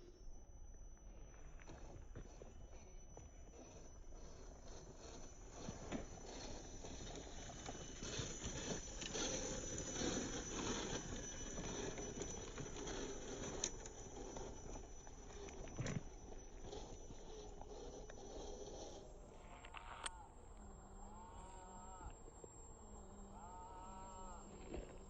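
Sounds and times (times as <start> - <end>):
small electric motor whining: 0.0 - 25.0.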